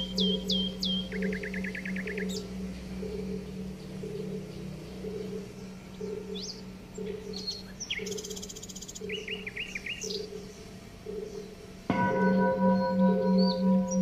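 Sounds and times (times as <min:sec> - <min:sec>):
pulsing low hum: 0:00.0 - 0:14.0
small birds chirping: 0:00.0 - 0:14.0.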